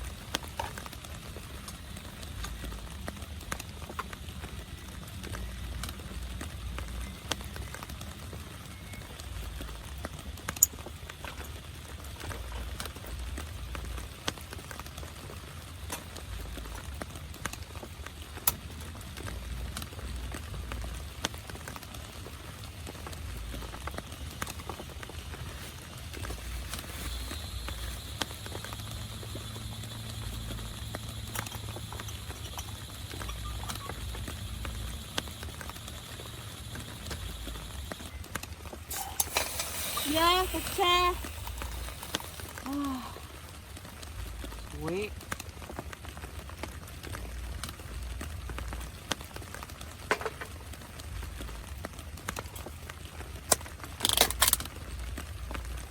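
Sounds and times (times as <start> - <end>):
heavy rain on a tent: 0.0 - 55.9
raindrops hitting fabric: 0.0 - 55.9.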